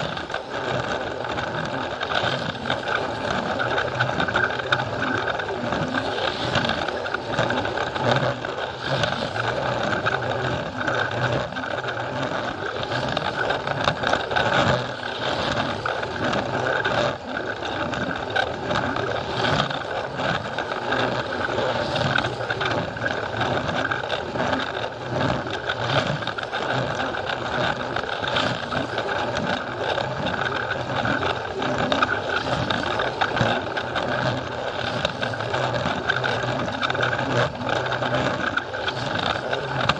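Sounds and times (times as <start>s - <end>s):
toy train clicking on track: 0.0s - 39.9s
toy train motor whine: 0.0s - 39.9s.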